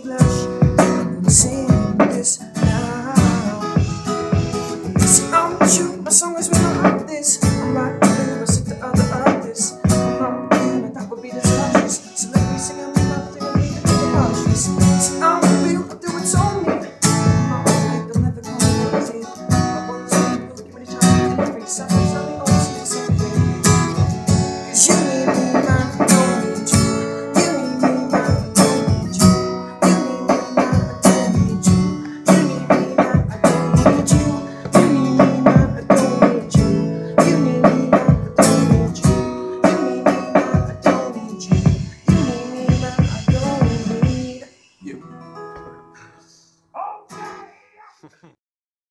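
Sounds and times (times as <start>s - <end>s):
acoustic guitar strumming: 0.0s - 47.8s.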